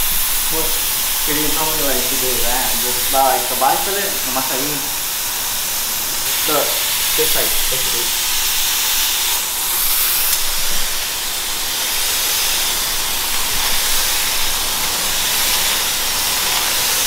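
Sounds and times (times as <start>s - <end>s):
spray gun hissing: 0.0s - 17.0s.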